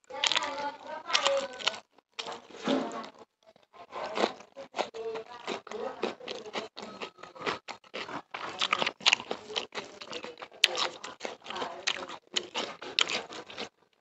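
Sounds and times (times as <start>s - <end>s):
wet chewing and lip smacking: 0.1s - 2.6s, 3.5s - 14.0s.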